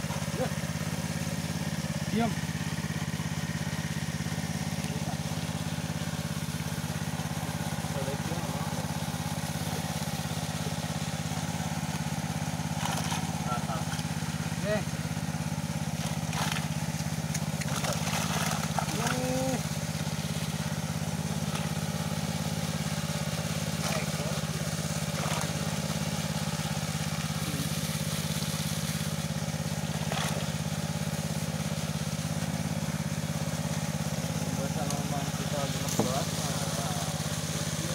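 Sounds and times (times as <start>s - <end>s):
small engine running: 0.0s - 37.9s.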